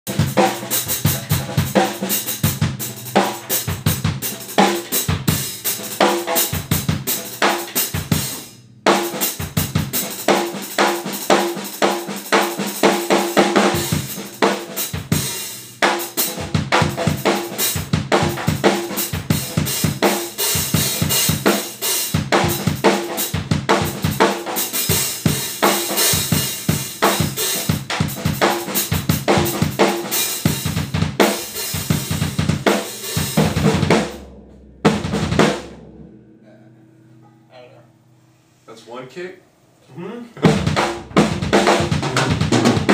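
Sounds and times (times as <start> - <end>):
drum kit groove: 0.0 - 37.4, 40.3 - 42.9.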